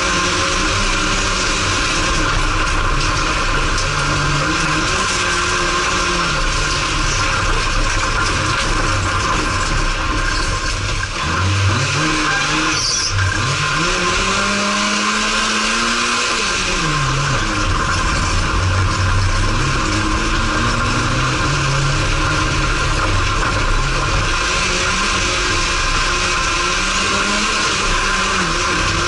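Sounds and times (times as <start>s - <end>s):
race car engine revving: 0.0s - 29.0s
road and gravel noise: 0.0s - 29.0s.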